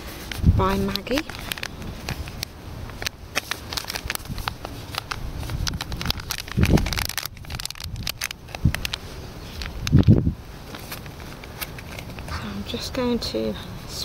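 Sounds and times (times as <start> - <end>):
plastic sachet crinkling: 0.2 - 12.4.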